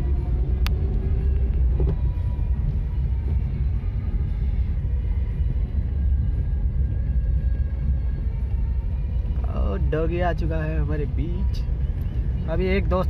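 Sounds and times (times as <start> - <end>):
car engine rumbling: 0.0 - 13.0
tyres on road: 0.0 - 13.0.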